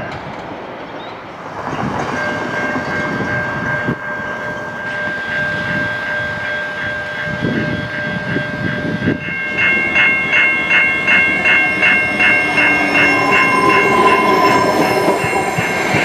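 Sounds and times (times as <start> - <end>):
approaching train rumble: 0.0 - 16.0
crossing warning bells ringing: 1.1 - 16.0
steady high tone: 1.9 - 16.0.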